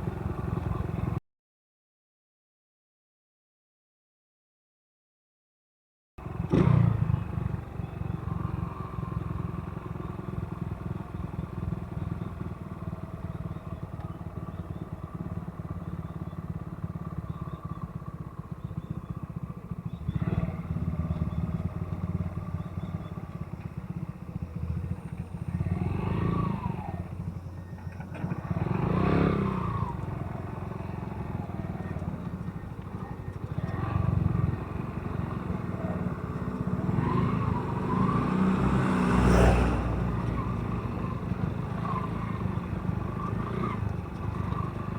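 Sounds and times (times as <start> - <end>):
motorcycle engine and road rumble: 0.0 - 1.2, 6.2 - 44.9.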